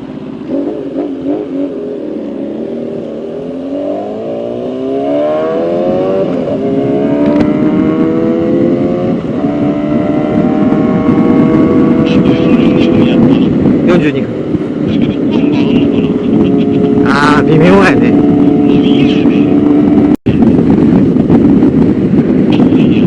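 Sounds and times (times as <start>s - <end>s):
motorcycle engine accelerating: 0.0s - 23.0s
wind and road noise: 0.0s - 23.0s.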